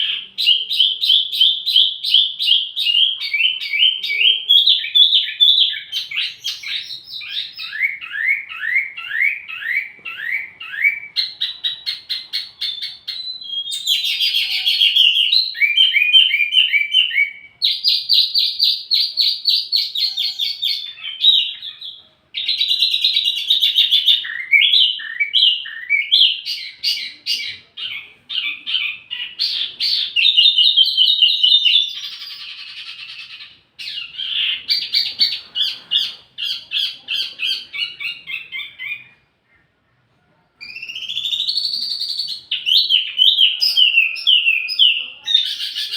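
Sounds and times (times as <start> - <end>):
bird chirps and trills: 0.0 - 39.8.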